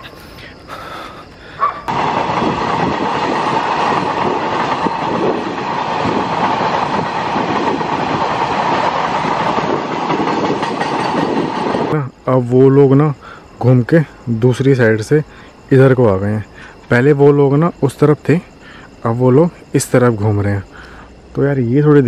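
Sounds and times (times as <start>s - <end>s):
freight train wheels rumbling on rails: 1.8s - 22.0s.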